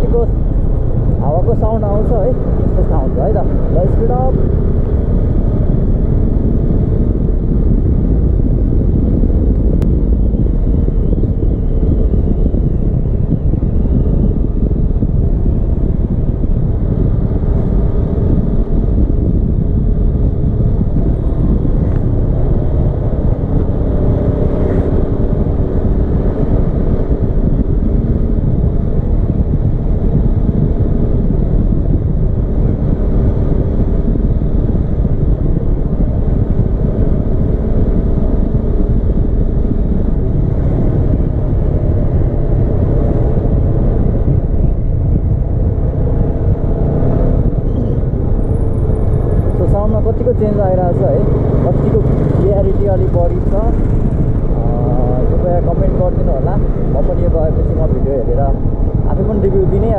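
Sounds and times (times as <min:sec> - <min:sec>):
vehicle running noise: 0:00.0 - 0:59.9
wind rumble on microphone: 0:00.0 - 0:59.9.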